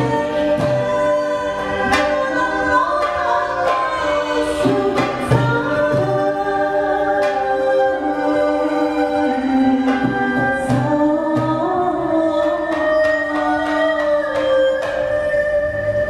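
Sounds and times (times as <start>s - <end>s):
voices singing: 0.0s - 14.4s
sustained instrumental notes: 0.0s - 16.0s.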